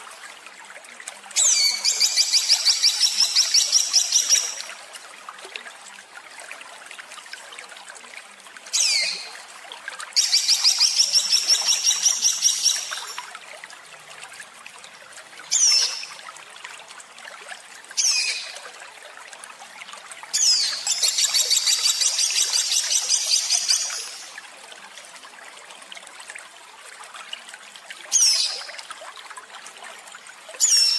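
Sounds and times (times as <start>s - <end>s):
trickle of running water: 0.0s - 30.9s.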